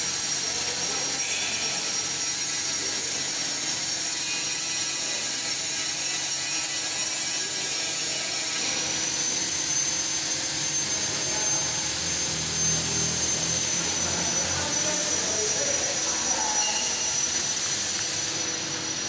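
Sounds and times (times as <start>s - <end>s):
laser cutting machine hiss: 0.0s - 19.0s
thin high whine: 0.0s - 19.0s.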